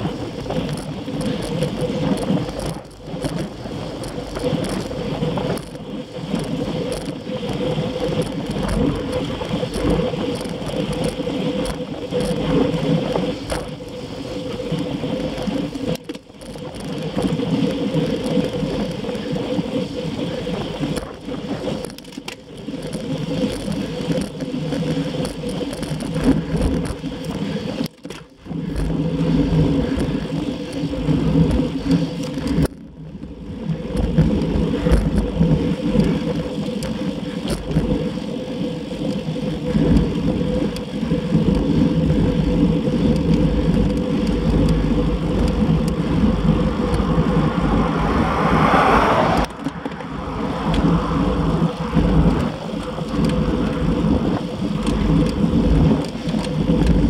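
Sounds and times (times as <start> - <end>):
wheels rolling on rough asphalt: 0.0 - 57.0.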